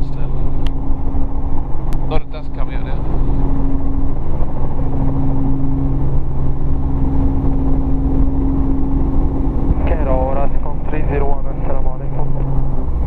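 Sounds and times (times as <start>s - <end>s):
helicopter engine and rotors droning: 0.0s - 13.0s.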